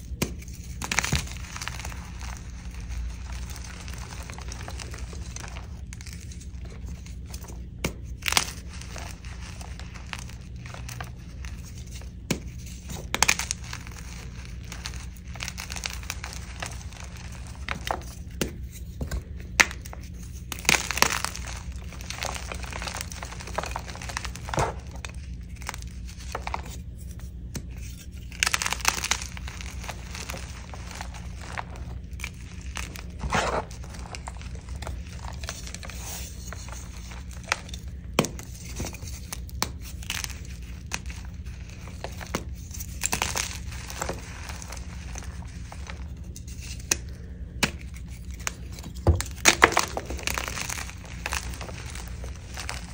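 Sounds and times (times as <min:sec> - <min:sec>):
chalk crumbling by hand: 0:00.0 - 0:52.9
steady low hum: 0:00.0 - 0:52.9.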